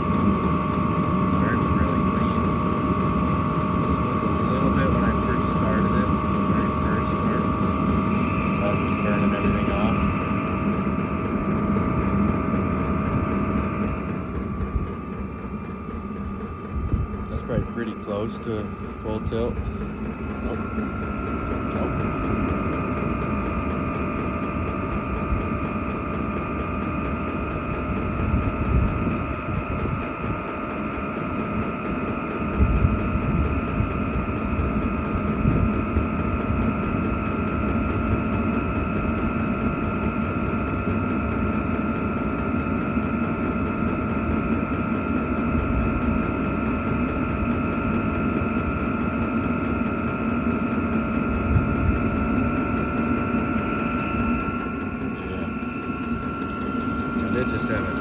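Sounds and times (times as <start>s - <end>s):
fan whine: 0.0s - 58.0s
low rumble of burner: 0.0s - 58.0s.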